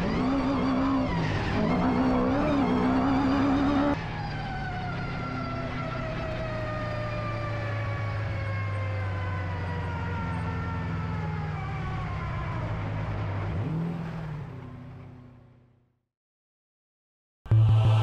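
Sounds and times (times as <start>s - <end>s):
vehicle engine humming: 0.0s - 15.8s.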